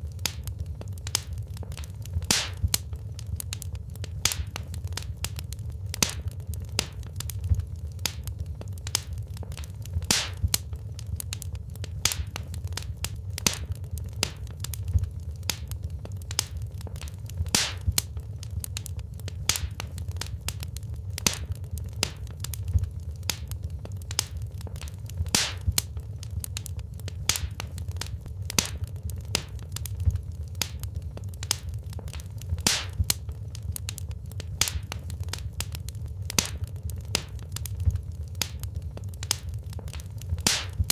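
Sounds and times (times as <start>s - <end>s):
low rumble of burning fire: 0.0s - 40.9s
wood fire crackling and popping: 0.0s - 40.9s.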